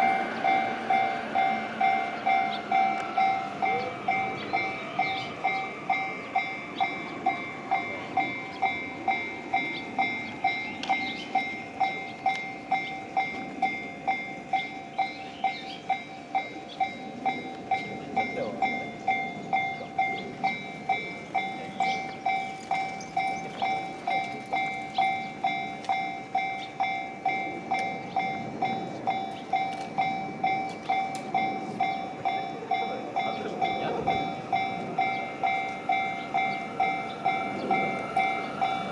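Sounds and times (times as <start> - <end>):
level-crossing alarm ringing: 0.0 - 38.9
train rumbling: 0.0 - 38.9.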